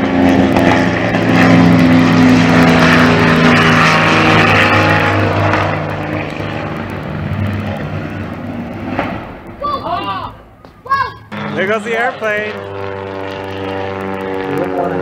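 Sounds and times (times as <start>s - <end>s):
propeller airplane flying past: 0.0s - 15.0s.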